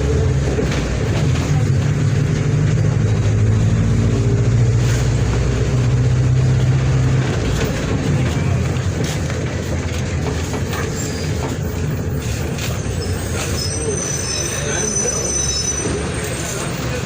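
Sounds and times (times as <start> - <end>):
bus diesel engine under load: 0.0 - 17.0.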